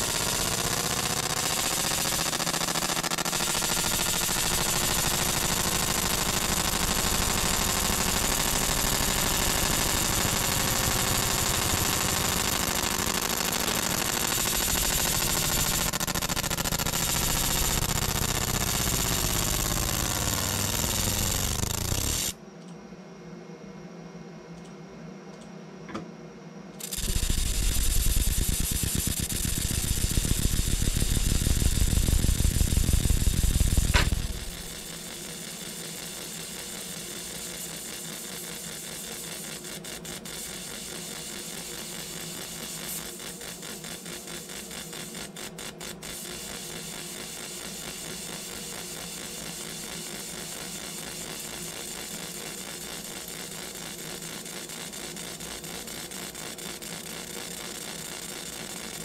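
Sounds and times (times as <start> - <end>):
rapid buzzing rattle: 0.0 - 22.4, 26.8 - 59.0.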